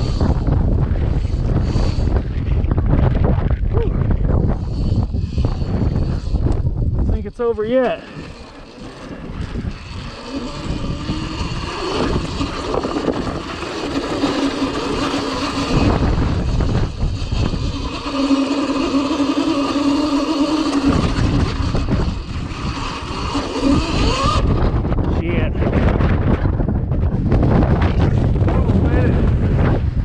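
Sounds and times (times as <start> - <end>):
electric motor whining: 0.0 - 29.8
heavy low rumbling: 0.0 - 30.0.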